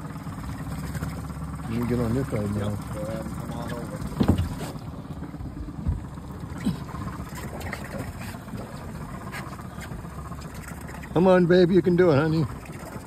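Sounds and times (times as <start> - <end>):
outboard motor idling: 0.0 - 13.0
water: 0.0 - 13.0
wind: 0.0 - 13.0.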